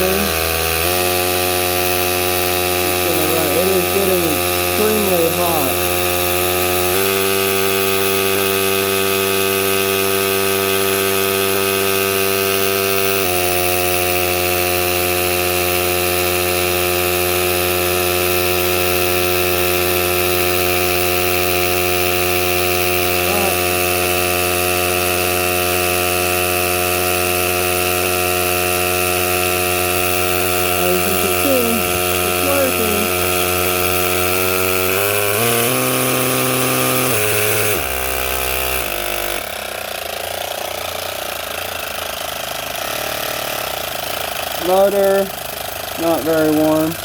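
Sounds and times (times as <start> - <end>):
small air compressor running: 0.0 - 47.0.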